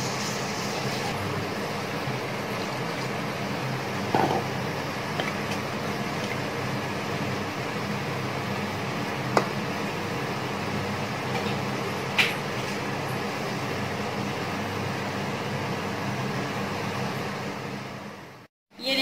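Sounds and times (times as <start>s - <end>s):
induction cooktop hum: 0.0s - 19.0s.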